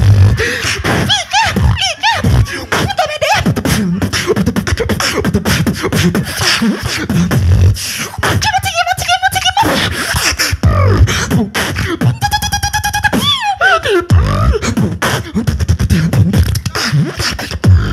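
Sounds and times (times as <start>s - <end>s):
beatboxing: 0.0s - 17.9s
warbling pitched vocal tones: 0.0s - 17.9s.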